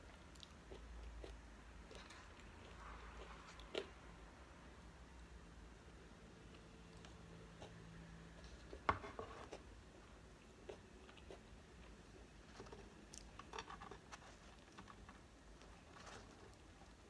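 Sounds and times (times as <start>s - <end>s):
faint chewing: 0.0s - 4.1s, 6.4s - 17.0s.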